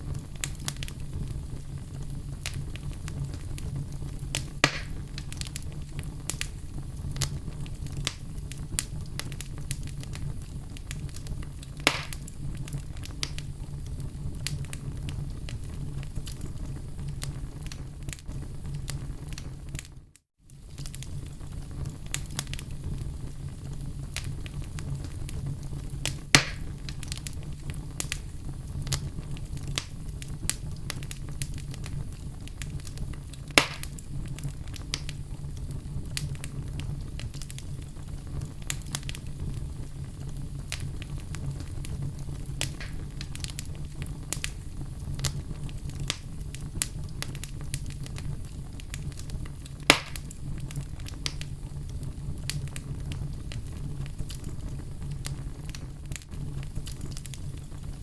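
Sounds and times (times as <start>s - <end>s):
low fire rumble: 0.0s - 58.0s
sharp fire pops: 0.0s - 58.0s
wood fire crackling: 0.0s - 58.0s.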